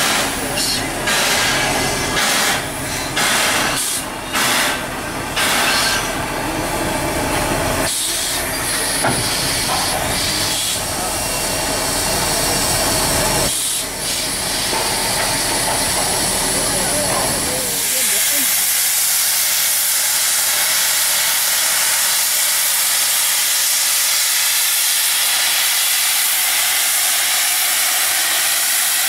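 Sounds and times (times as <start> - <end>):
steam locomotive hissing steam: 0.0 - 29.0.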